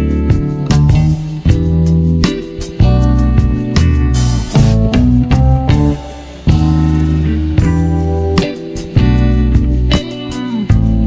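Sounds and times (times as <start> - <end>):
instrumental music with guitar: 0.0 - 11.0.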